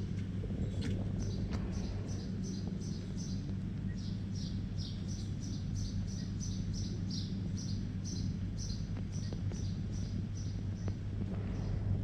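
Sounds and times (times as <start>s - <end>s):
low electrical hum: 0.0s - 12.0s
small bird chirping: 0.6s - 11.0s.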